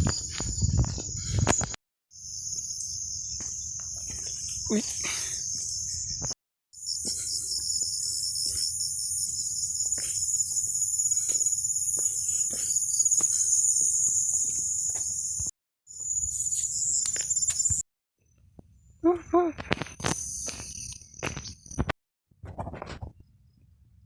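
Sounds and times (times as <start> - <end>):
shrill insect chorus: 0.0 - 17.8, 20.0 - 21.8.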